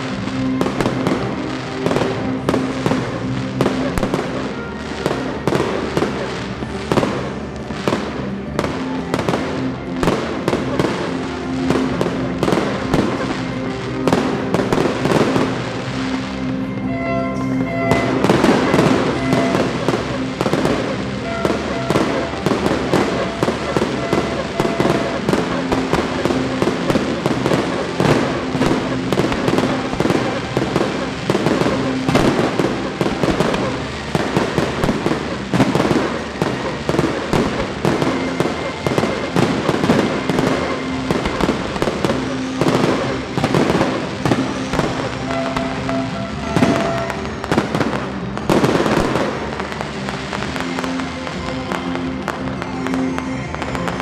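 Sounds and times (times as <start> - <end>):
firework bangs: 0.0 - 54.0
firework crackling bursts: 0.0 - 54.0.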